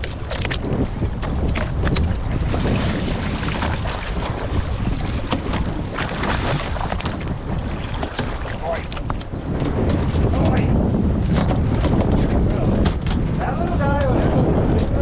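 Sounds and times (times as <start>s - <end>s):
boat engine rumble: 0.0s - 15.0s
water slapping against hull: 0.0s - 15.0s
wind buffeting microphone: 0.0s - 15.0s.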